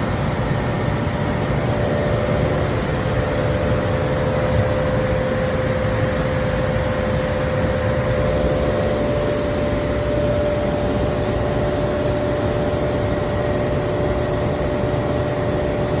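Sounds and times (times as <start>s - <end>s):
hvac rushing whirr: 0.0s - 16.0s.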